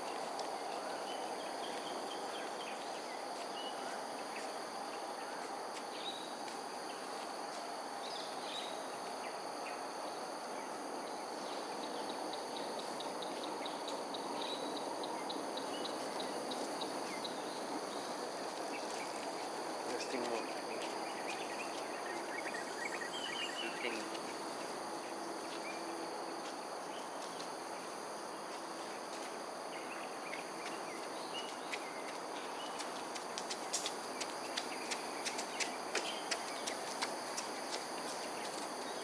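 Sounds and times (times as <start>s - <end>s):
constant background hum: 0.0s - 39.0s
insect chirring: 0.0s - 39.0s.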